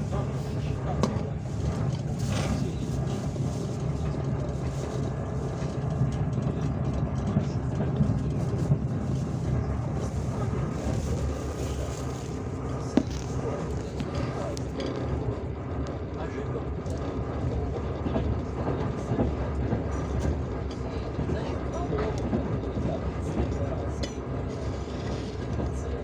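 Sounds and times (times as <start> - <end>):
passenger train rumbling: 0.0 - 26.0.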